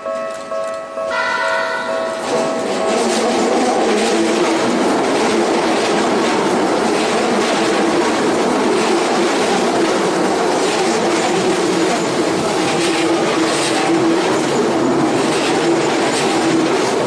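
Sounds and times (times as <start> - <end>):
train wheels on rails: 0.0 - 17.0
wheels clattering over rails: 1.8 - 17.0.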